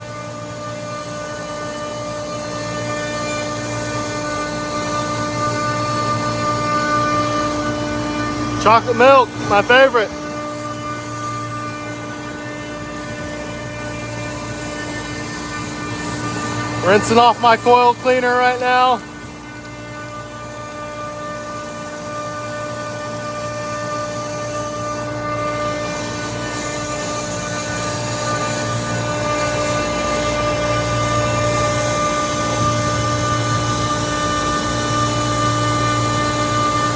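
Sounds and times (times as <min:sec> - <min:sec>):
chiller mechanical hum: 0:00.0 - 0:36.9.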